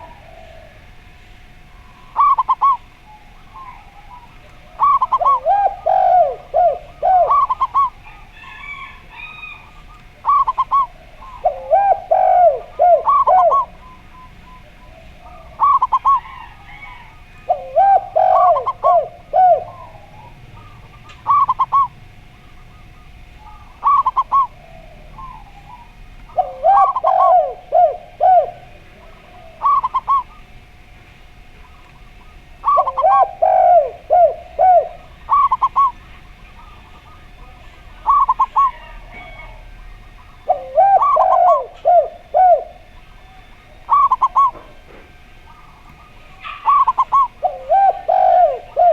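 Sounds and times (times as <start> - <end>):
doves cooing: 0.0 - 48.9.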